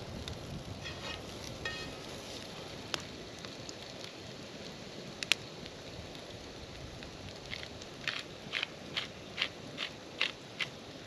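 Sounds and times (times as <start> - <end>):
campfire crackling: 0.0 - 11.0
potatoes frying in skillet: 0.0 - 11.0.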